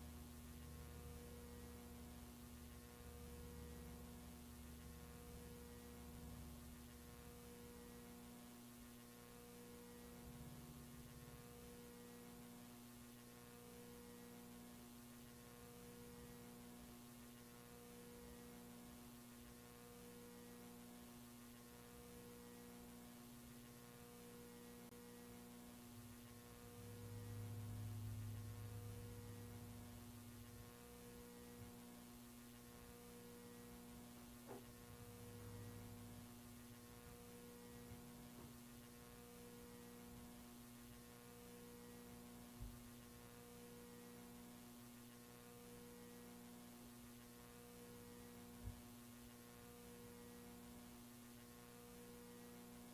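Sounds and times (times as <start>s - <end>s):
faint electrical hum: 0.0s - 52.9s.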